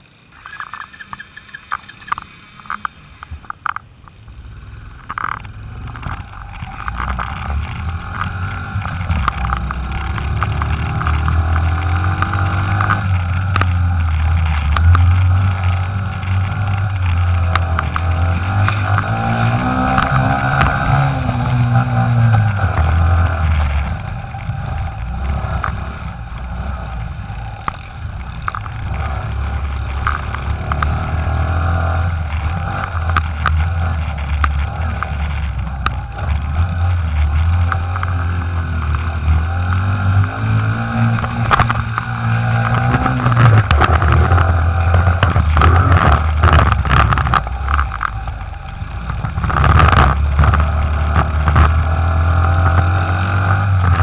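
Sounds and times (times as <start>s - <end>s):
pit bike engine running: 0.0s - 54.0s
sharp engine crackles: 0.0s - 54.0s.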